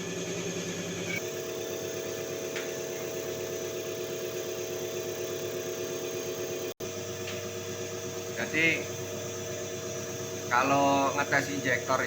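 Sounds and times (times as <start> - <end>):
test bench motor and pump hum: 0.0 - 12.0.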